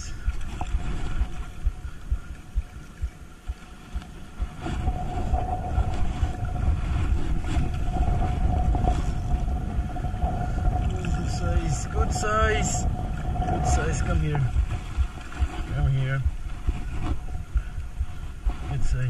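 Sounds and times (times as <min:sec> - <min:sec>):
steady mid-pitched hum: 0:00.0 - 0:19.0
wind buffeting microphone: 0:00.0 - 0:19.0.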